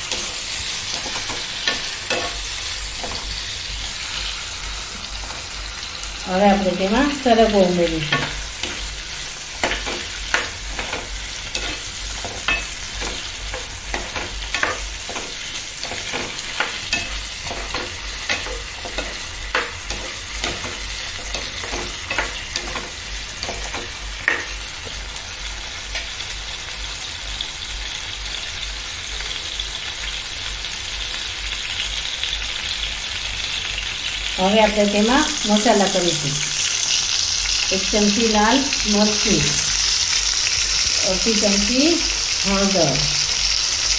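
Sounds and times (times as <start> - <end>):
vegetables sizzling in oil: 0.0 - 43.9.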